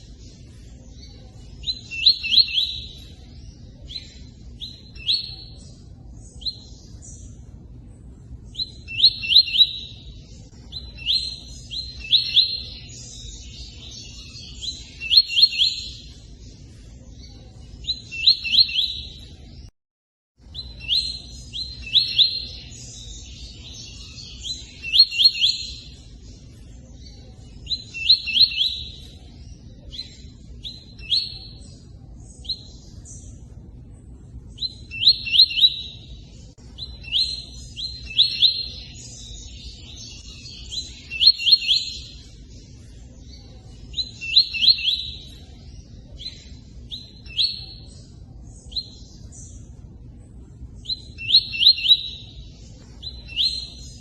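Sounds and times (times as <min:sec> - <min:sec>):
bird chirping: 0:00.0 - 0:19.7, 0:20.4 - 0:54.0.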